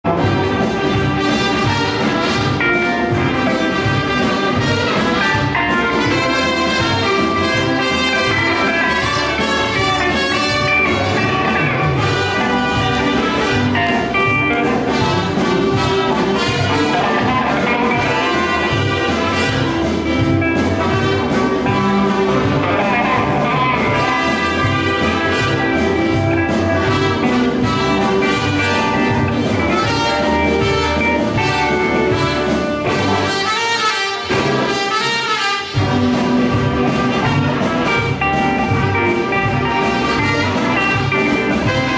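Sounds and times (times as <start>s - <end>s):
live band playing instrumental: 0.0s - 41.9s
trumpet: 0.0s - 41.9s
saxophone: 0.1s - 41.9s.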